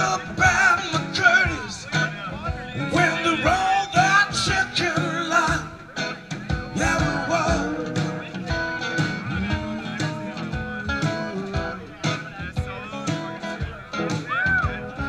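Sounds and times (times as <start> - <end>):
acoustic guitars strumming: 0.0 - 15.0
man singing: 0.0 - 15.0.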